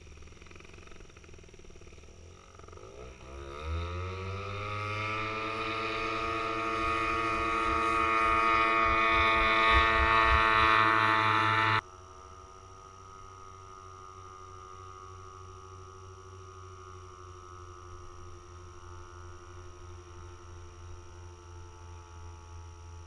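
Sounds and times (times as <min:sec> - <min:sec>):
distant engine drone: 0:00.0 - 0:23.0
paramotor engine throttling up: 0:00.0 - 0:23.0.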